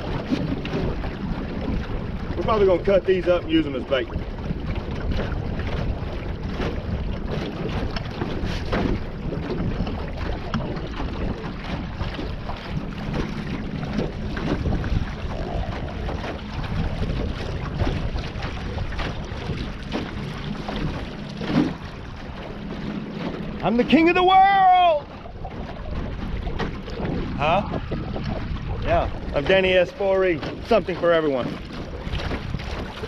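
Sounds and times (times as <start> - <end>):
boat motor and water noise: 0.0 - 33.0
wind buffeting microphone: 0.0 - 33.0.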